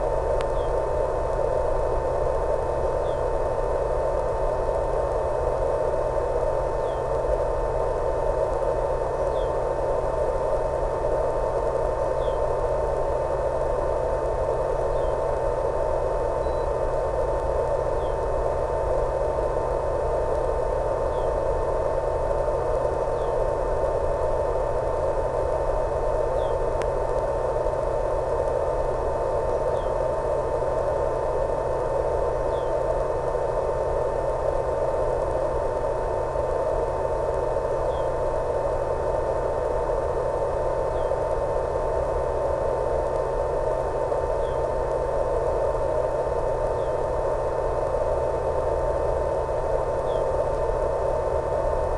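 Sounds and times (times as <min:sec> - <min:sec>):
constant tone: 0:00.0 - 0:51.9
radio static hiss: 0:00.0 - 0:51.9.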